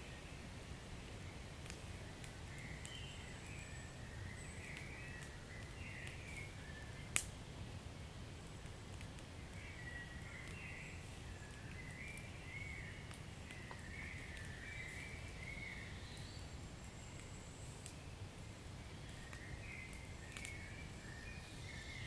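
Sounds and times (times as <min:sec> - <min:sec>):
faint fire crackles: 0:00.0 - 0:22.0.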